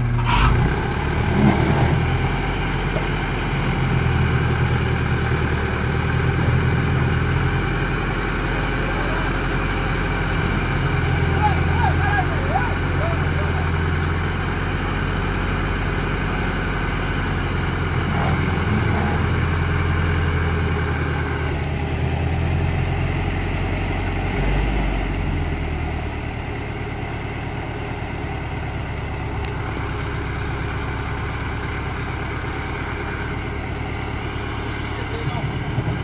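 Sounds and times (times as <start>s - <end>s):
vehicle engine idling: 2.0s - 36.0s.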